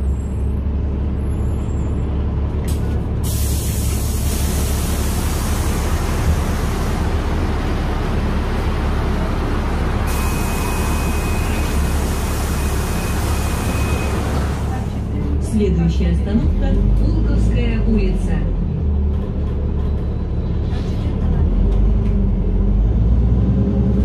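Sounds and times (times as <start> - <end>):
bus engine hum: 0.0 - 24.0
road and tyre noise: 0.0 - 24.0.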